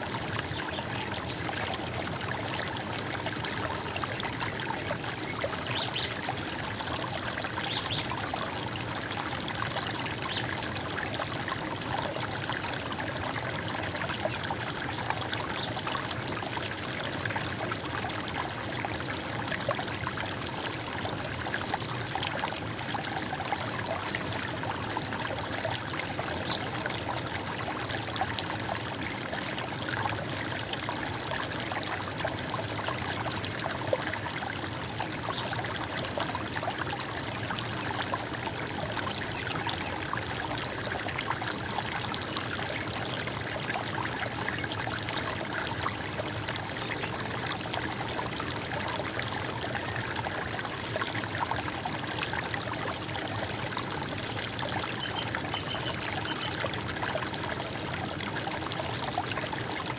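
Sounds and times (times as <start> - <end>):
stream gurgling and trickling: 0.0 - 59.9.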